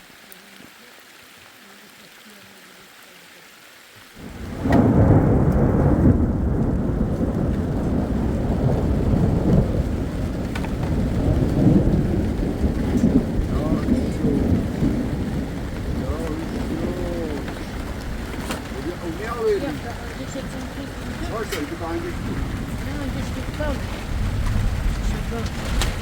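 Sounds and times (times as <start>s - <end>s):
rain pattering: 0.0s - 26.0s
thunder rumbling: 4.2s - 26.0s.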